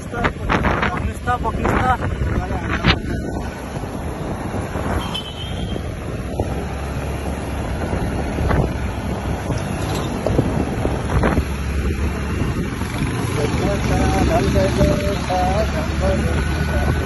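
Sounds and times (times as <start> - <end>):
motorbike running: 0.0 - 17.0
wind buffeting microphone: 0.0 - 17.0.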